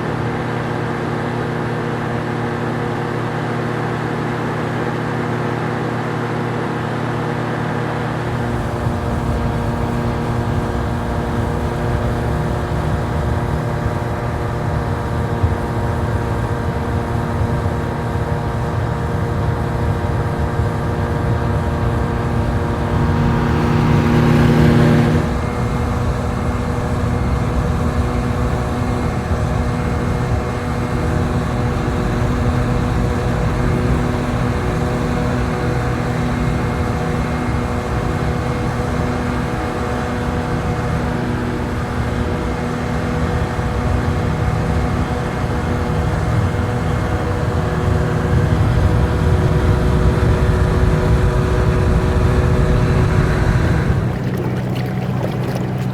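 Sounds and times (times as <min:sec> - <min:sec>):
hovercraft engine droning: 0:05.6 - 0:55.9.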